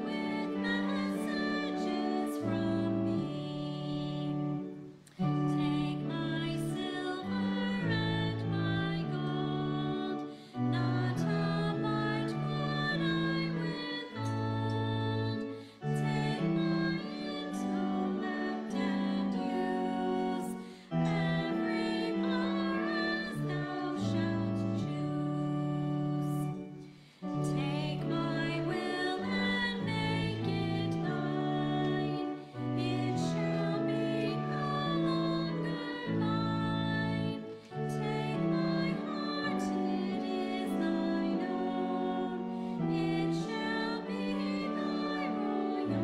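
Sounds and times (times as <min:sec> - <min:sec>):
hymn music in slow held chords: 0:00.0 - 0:46.0.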